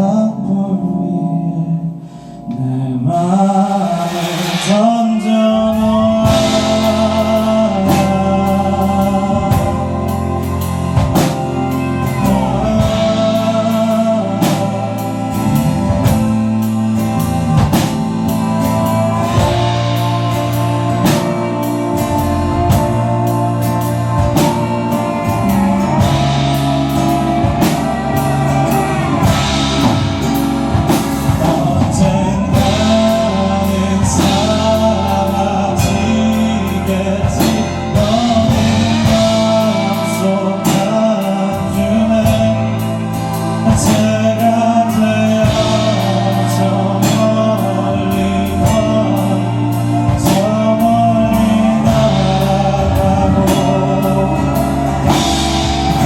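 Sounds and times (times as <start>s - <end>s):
bass guitar: 0.0s - 56.0s
guitars: 0.0s - 56.0s
keyboard: 0.0s - 56.0s
person singing: 0.0s - 56.0s
drum kit beat: 3.2s - 56.0s.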